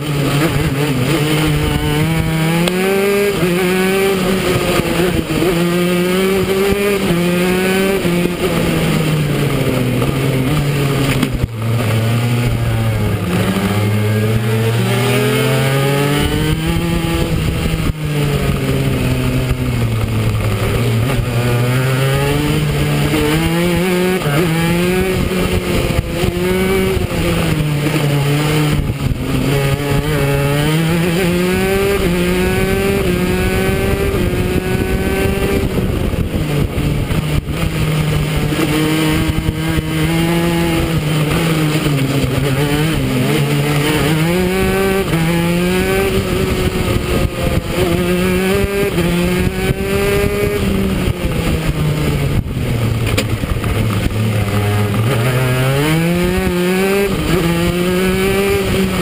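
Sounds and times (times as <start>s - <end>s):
go-kart engine accelerating: 0.0s - 59.0s.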